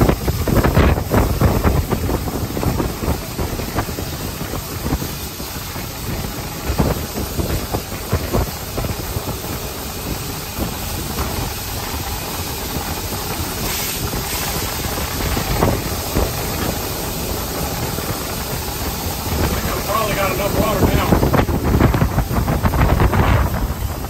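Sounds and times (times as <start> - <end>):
steam locomotive hiss and rumble: 0.0 - 24.0.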